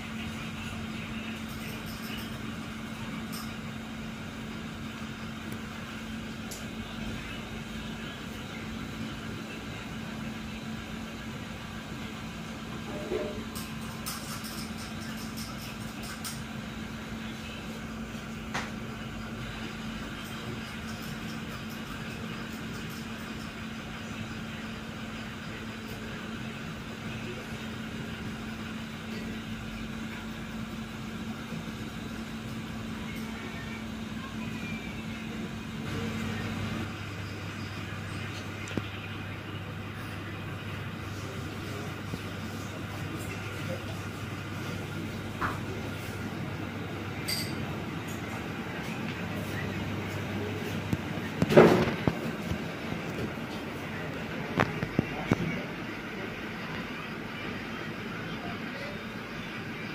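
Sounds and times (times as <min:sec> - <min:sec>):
ceiling fan humming: 0:00.0 - 0:59.9
room background noise: 0:00.0 - 0:59.9.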